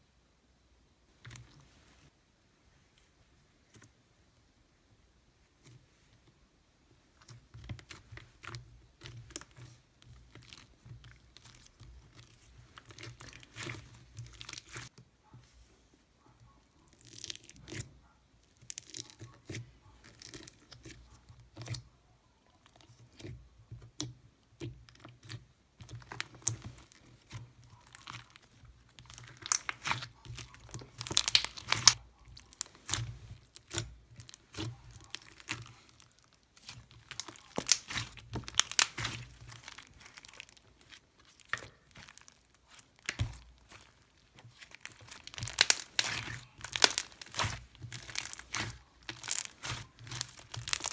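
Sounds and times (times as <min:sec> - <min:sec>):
slime crackling and popping: 0:07.2 - 0:14.9, 0:16.8 - 0:21.8, 0:22.6 - 0:50.9.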